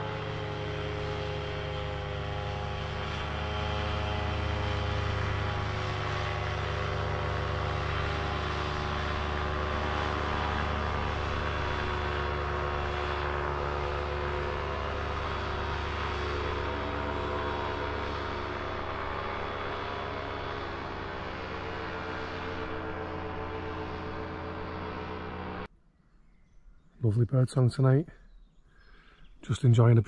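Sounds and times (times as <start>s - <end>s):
paramotor engine drone: 0.0s - 25.7s.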